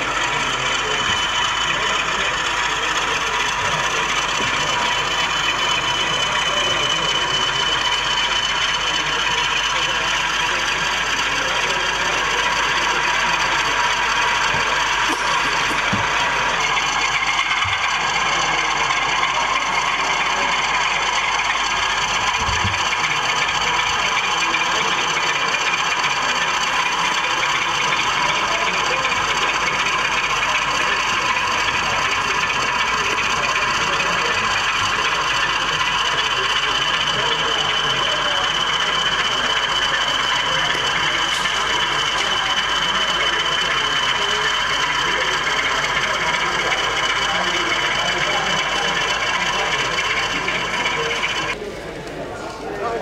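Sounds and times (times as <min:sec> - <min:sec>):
model train motor whirring: 0:00.0 - 0:51.6
steady high tones: 0:00.0 - 0:51.6.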